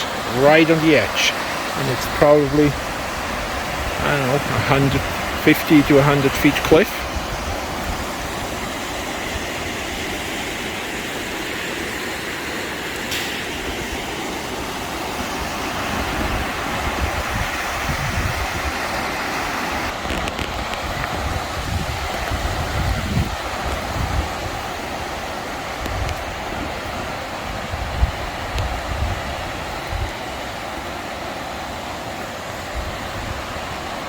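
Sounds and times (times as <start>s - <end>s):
wind buffeting microphone: 0.0s - 10.9s, 13.2s - 30.4s, 32.6s - 34.0s
river water rushing: 0.0s - 34.0s.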